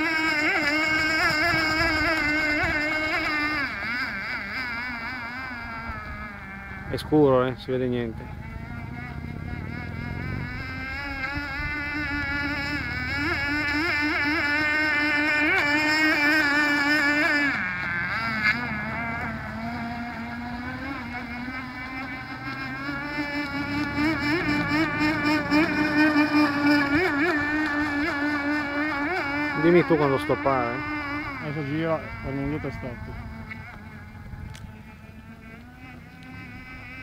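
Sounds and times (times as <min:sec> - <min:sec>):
model boat engine whining: 0:00.0 - 0:37.0.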